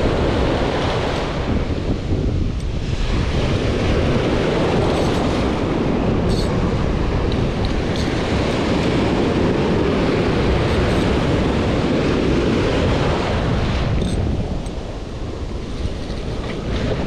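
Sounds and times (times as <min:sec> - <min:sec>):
surf breaking in shallows: 0:00.0 - 0:17.0
wind buffeting microphone: 0:00.0 - 0:17.0.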